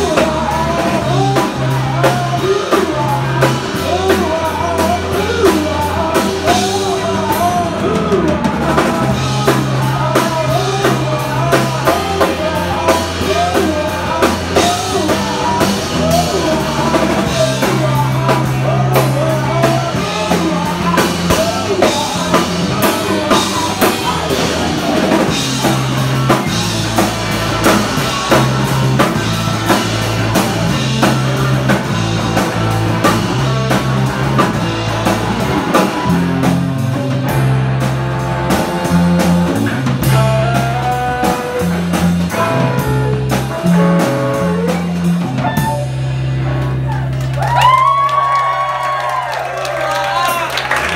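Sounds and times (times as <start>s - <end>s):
person singing: 0.0s - 46.0s
bass line: 0.0s - 50.9s
drum kit: 0.0s - 50.9s
electric guitars: 0.0s - 50.9s.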